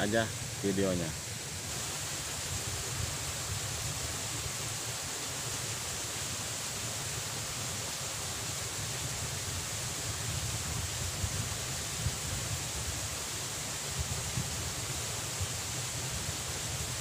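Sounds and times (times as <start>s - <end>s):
constant high hiss: 0.0s - 17.0s
even hiss: 0.0s - 17.0s.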